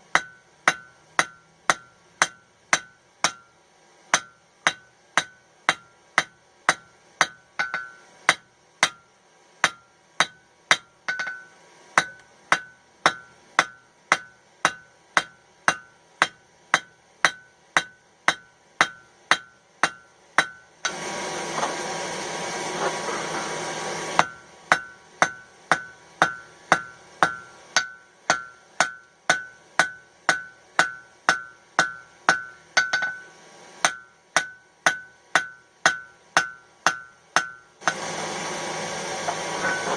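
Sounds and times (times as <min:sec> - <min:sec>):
steady rush of noise: 0:00.0 - 0:39.9
hammer ringing on hot steel: 0:00.1 - 0:21.0, 0:24.1 - 0:38.1, 0:39.5 - 0:39.9.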